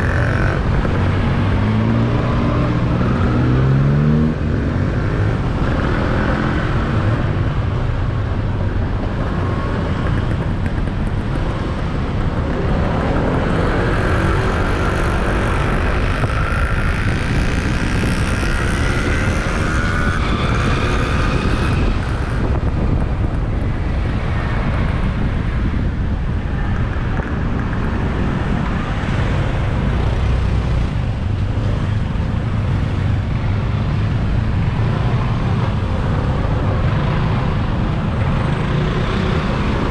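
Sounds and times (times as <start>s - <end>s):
surrounding traffic noise: 0.0s - 39.9s
wind rumble on microphone: 0.0s - 39.9s.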